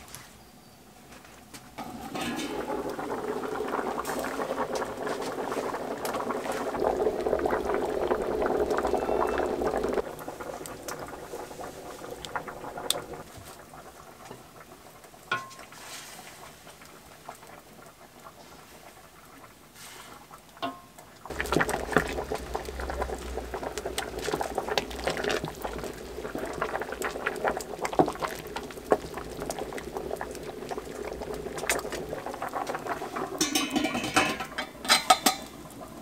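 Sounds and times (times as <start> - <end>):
burning wood crackling: 1.1 - 36.0
pot boiling with loud bubbling: 1.7 - 36.0.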